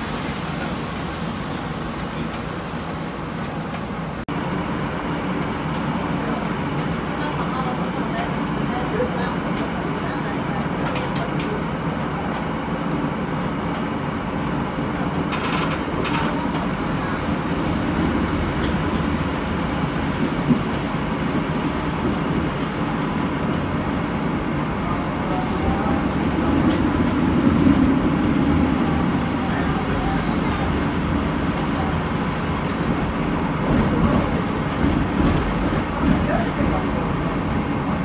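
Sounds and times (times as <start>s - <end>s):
streetcar rumbling along rails: 0.0s - 38.0s.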